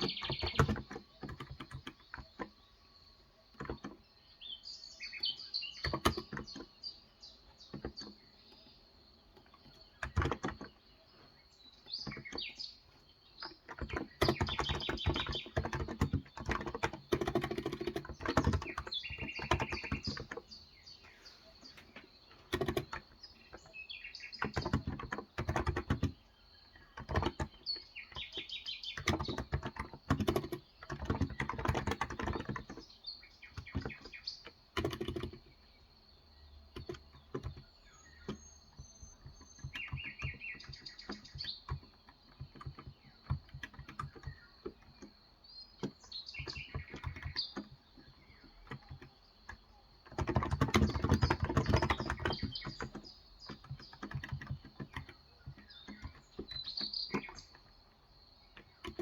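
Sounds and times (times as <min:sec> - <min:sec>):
typing on keyboard: 0:00.0 - 0:04.1, 0:05.0 - 0:11.0, 0:11.7 - 0:20.9, 0:21.6 - 0:35.8, 0:36.6 - 0:59.0
birds chirping: 0:00.0 - 0:59.0.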